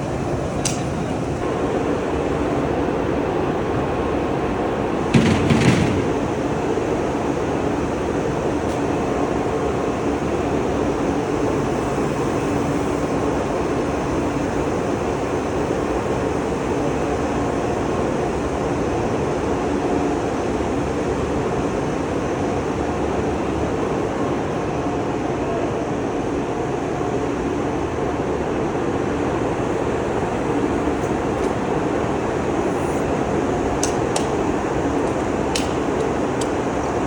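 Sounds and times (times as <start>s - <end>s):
faint hum: 0.0s - 37.0s
steady mechanical running noise: 0.0s - 37.0s.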